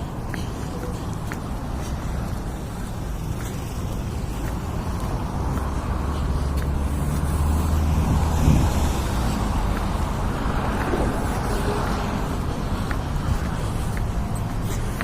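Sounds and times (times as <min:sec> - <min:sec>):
road traffic rumble: 0:00.0 - 0:15.0
vehicle engine: 0:00.0 - 0:15.0
wind buffeting microphone: 0:00.0 - 0:15.0.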